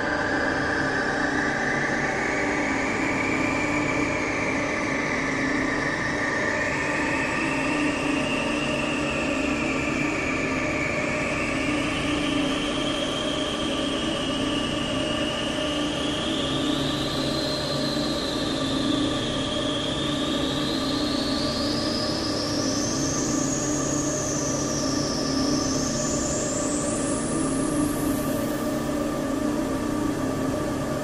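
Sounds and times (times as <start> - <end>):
dense noise drone: 0.0 - 31.0.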